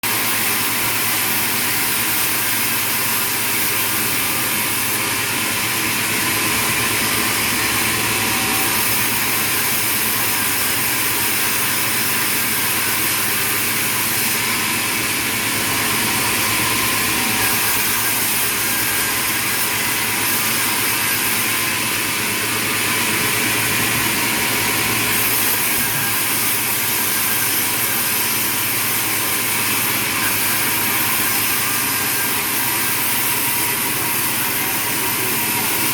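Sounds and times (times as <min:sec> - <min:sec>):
sawmill machinery running: 0:00.0 - 0:35.9.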